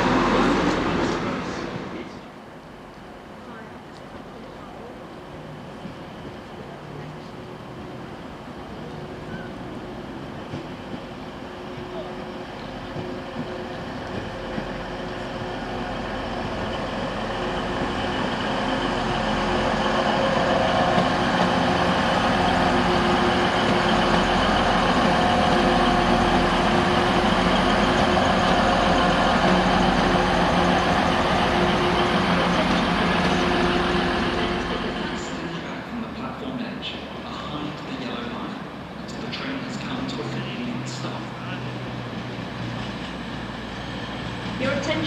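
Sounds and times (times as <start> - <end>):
diesel train engine humming: 0.0 - 45.0.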